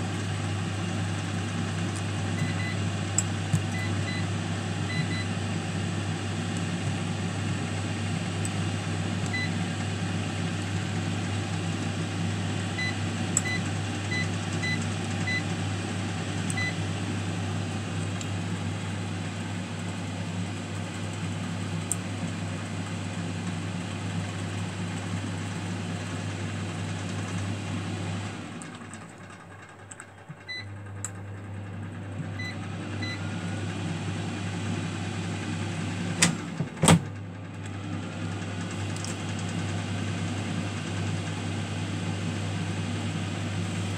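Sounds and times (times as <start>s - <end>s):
air fryer fan hum: 0.0s - 43.9s.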